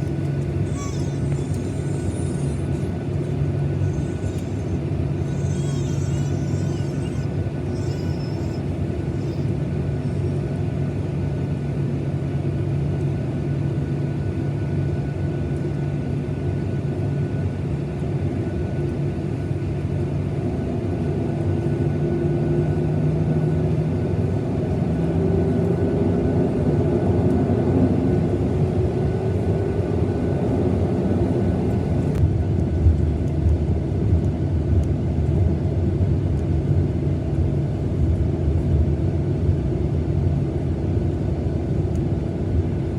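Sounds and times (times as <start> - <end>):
jet engines inside cabin: 0.0 - 42.9.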